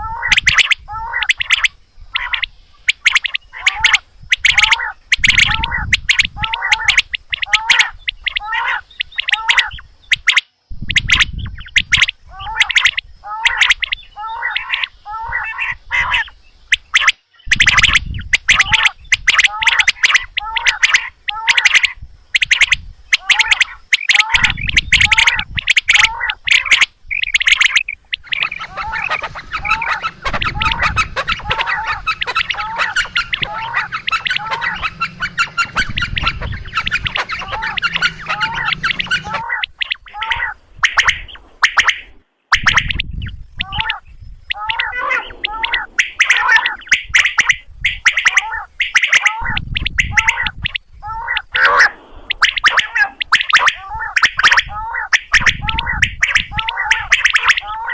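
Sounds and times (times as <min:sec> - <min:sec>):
quail calling: 0:00.0 - 0:57.9.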